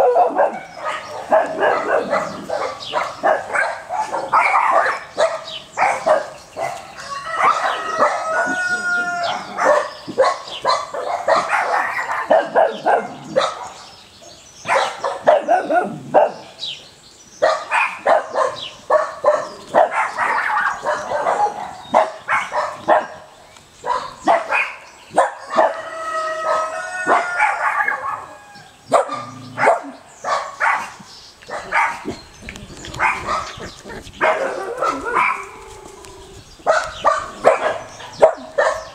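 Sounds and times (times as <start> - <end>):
puppies barking and yipping: 0.0 - 13.9, 14.6 - 16.5, 17.4 - 38.9.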